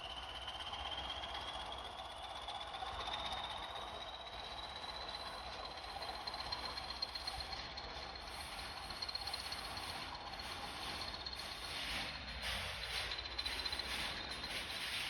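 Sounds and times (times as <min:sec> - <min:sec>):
diesel locomotive engines: 0:00.0 - 0:15.0.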